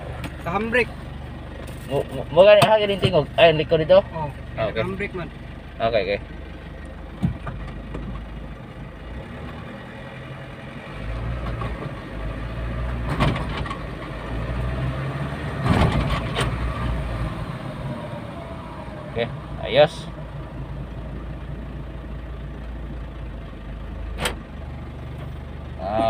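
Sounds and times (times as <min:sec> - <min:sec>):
diesel engine running in car cabin: 0:00.0 - 0:26.0.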